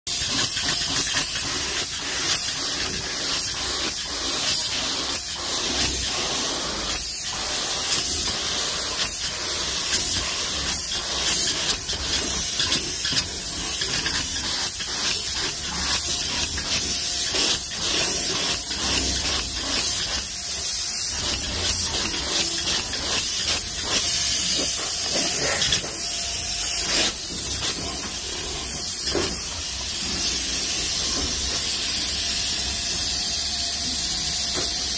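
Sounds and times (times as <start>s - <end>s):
spray foam gun hissing: 0.1s - 34.9s.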